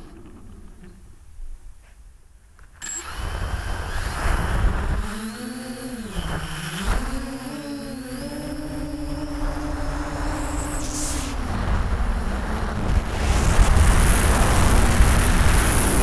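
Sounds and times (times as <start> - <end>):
drone motors whining: 0.0 - 1.4, 2.8 - 16.0.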